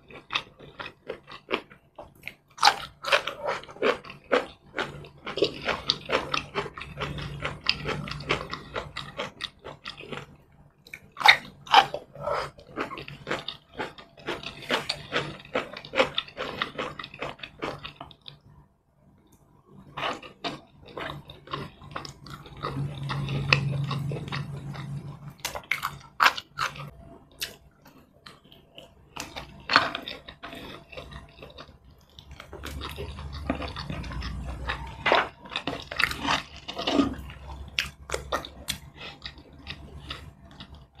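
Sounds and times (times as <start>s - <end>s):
chewing with wet mouth clicks: 0.0s - 18.4s, 20.0s - 41.0s.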